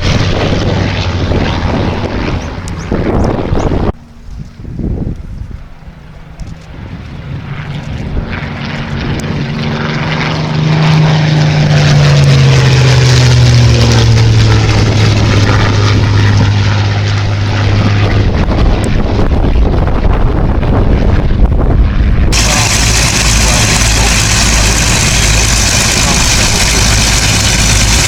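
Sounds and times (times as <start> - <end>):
propeller aircraft passing by: 0.0 - 28.0.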